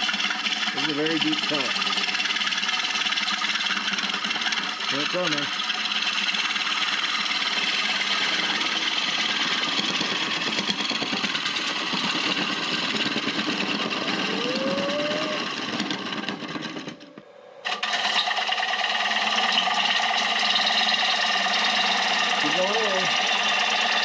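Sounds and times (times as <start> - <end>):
wood lathe running: 0.0 - 24.0
gouge scraping wood: 3.2 - 14.3, 15.4 - 24.0.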